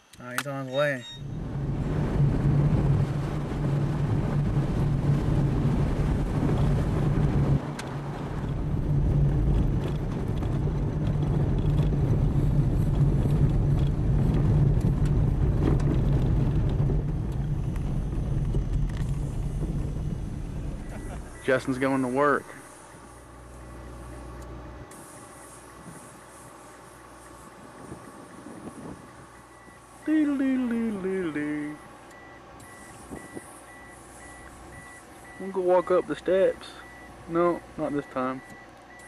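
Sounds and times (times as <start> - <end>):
car engine hum: 0.0 - 39.0
tyre and gravel road noise: 0.0 - 39.0.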